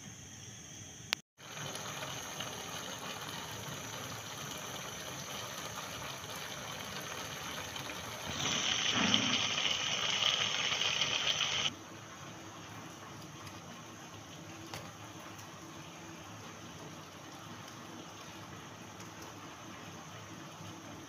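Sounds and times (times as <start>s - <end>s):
pot boiling on gas burner: 1.4s - 21.0s.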